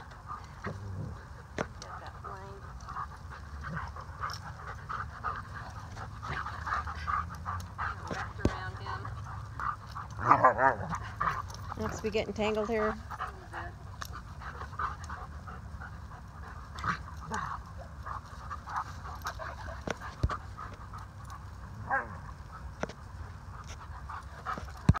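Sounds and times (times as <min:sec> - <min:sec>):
dogs panting: 0:00.0 - 0:25.0.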